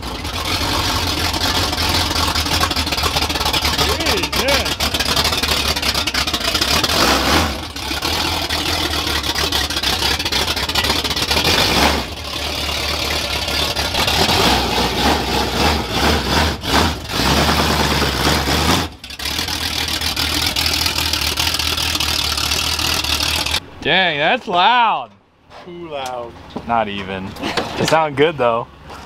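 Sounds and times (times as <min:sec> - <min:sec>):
truck engine revving: 0:00.0 - 0:23.7.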